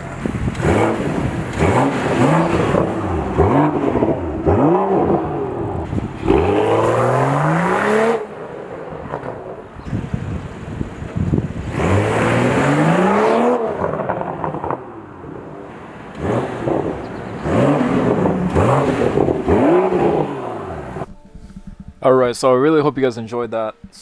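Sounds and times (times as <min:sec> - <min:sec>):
car engine revving: 0:00.0 - 0:21.2
exhaust crackles: 0:00.0 - 0:24.0.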